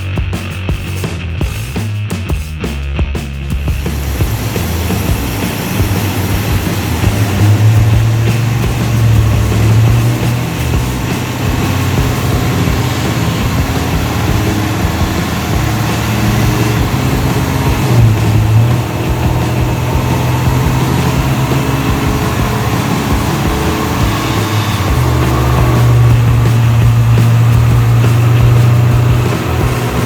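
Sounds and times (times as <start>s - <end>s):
car engine with deep exhaust: 3.6s - 30.0s.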